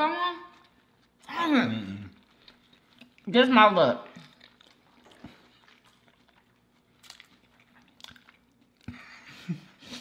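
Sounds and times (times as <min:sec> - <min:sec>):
person chewing: 0:00.5 - 0:03.4, 0:04.0 - 0:10.0.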